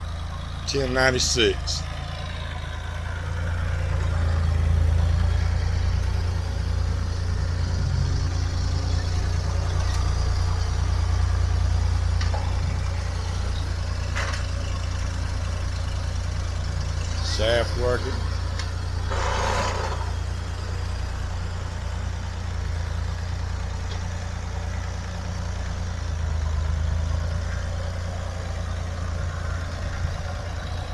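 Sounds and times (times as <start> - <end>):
farm machine engine idling: 0.0 - 30.9.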